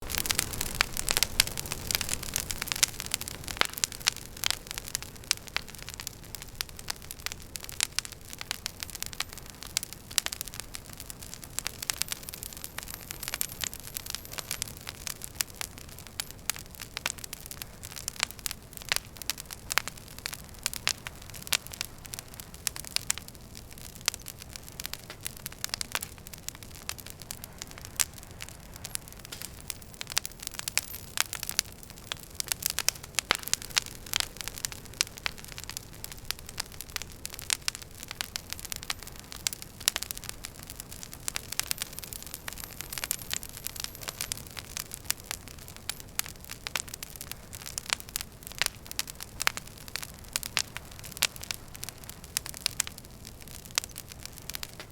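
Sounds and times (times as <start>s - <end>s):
fire crackling and popping: 0.0s - 54.9s
flames rushing: 0.0s - 54.9s.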